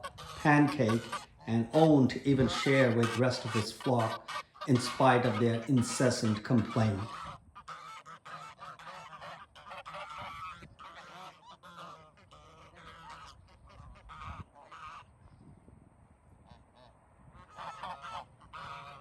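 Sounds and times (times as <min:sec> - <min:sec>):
geese honking: 0:00.0 - 0:15.1, 0:16.5 - 0:19.0.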